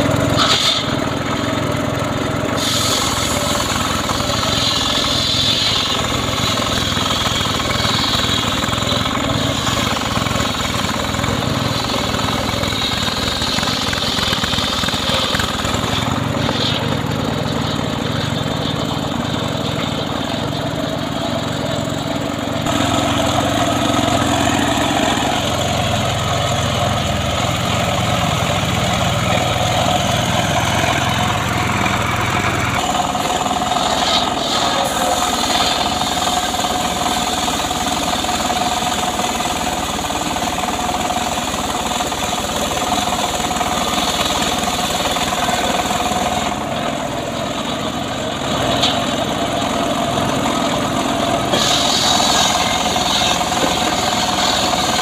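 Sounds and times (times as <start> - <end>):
engine-driven saw running: 0.0 - 55.0.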